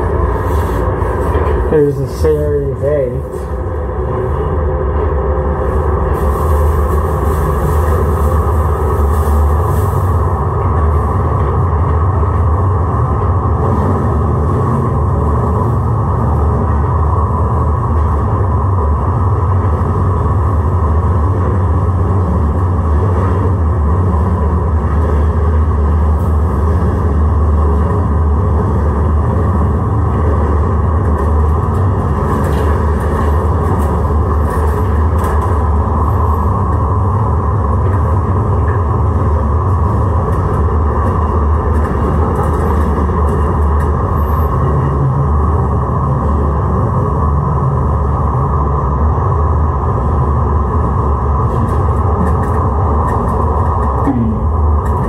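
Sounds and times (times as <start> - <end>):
light rail car rumble and hum: 0.0 - 55.0.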